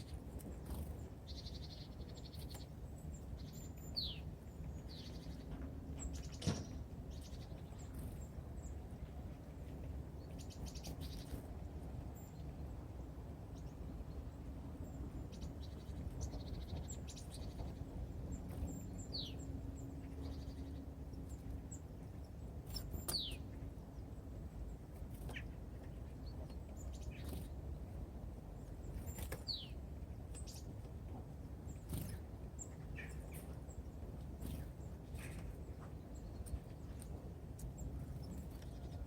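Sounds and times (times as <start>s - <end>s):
low outdoor rumble: 0.0s - 39.0s
songbirds calling: 0.0s - 39.0s.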